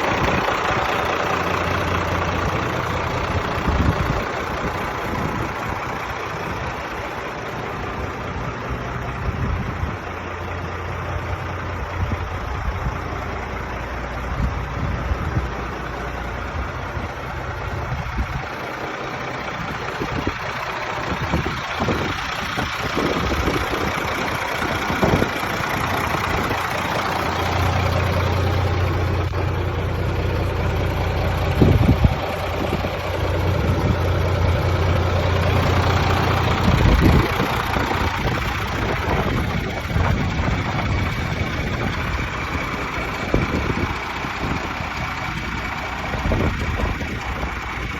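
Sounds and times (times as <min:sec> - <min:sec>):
tractor diesel engine idling: 0:00.0 - 0:47.9.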